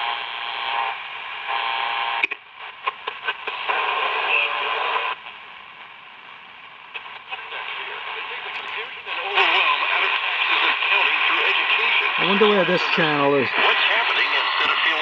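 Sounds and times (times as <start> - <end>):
radio crackling clicks: 0.0 - 5.4, 6.9 - 15.0
radio static hiss: 0.0 - 15.0.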